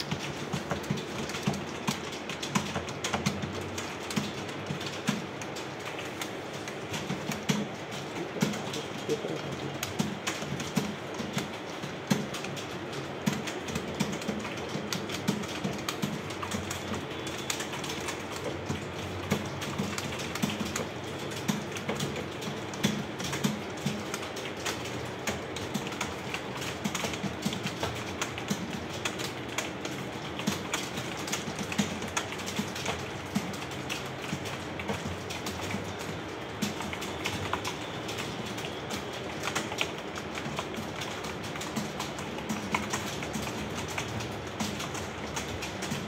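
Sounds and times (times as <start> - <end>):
keyboards typing clatter: 0.0 - 46.0.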